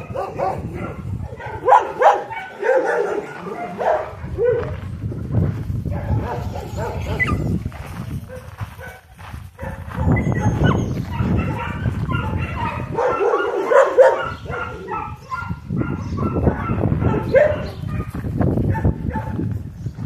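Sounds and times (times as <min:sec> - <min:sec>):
dogs barking and yipping: 0:00.0 - 0:05.0, 0:05.7 - 0:19.8.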